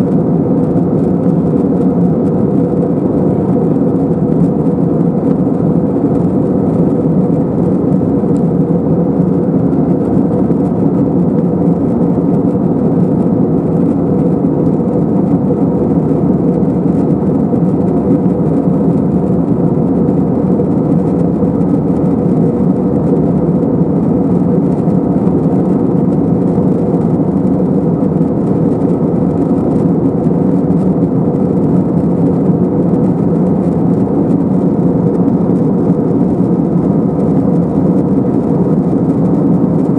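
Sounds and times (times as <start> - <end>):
airflow over fuselage: 0.0 - 39.9
jet engine rush: 0.0 - 39.9.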